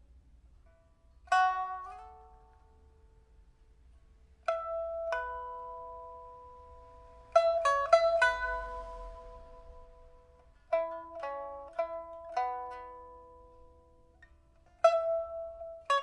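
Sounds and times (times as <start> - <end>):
plucked pipa notes: 0.0 - 16.0.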